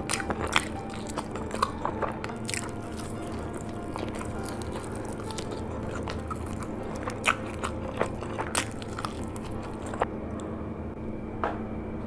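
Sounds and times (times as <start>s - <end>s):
sharp crunches: 0.0s - 10.1s
chewing food: 0.0s - 10.5s.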